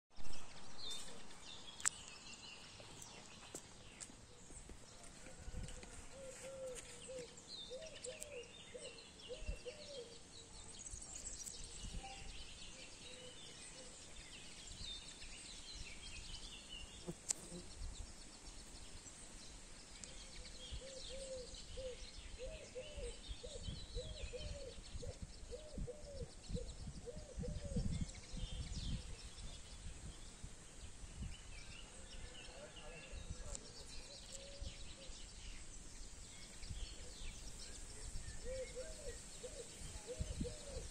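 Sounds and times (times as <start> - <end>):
small birds chirping: 0.3 - 5.5, 6.1 - 40.9.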